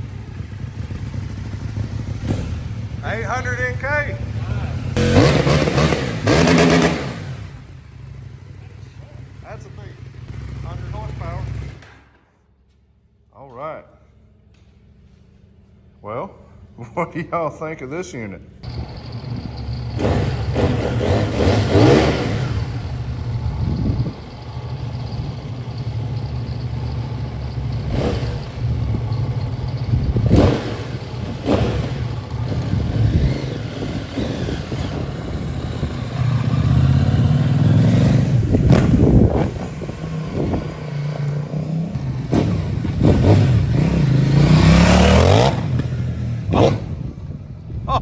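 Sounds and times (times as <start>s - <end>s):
motorcycle engine idling and revving: 0.0s - 13.3s, 14.0s - 48.0s.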